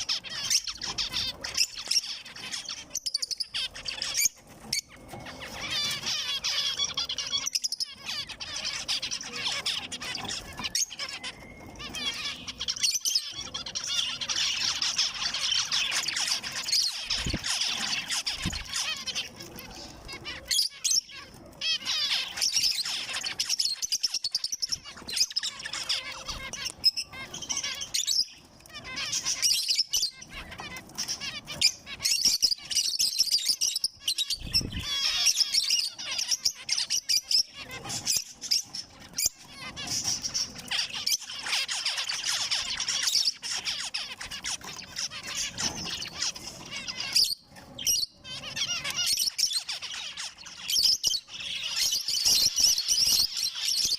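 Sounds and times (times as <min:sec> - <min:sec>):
finches chirping: 0:00.0 - 0:53.9.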